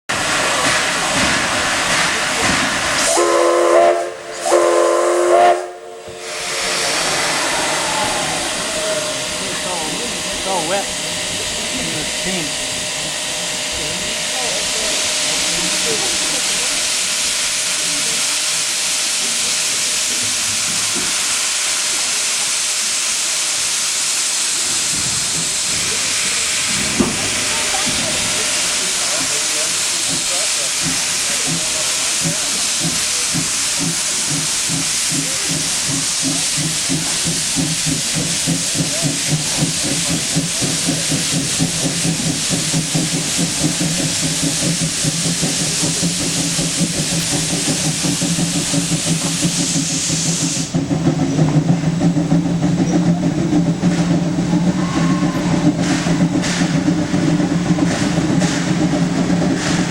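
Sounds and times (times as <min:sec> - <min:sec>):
steam hissing: 0:00.1 - 0:59.9
steam locomotive exhaust chuff: 0:00.1 - 0:59.9.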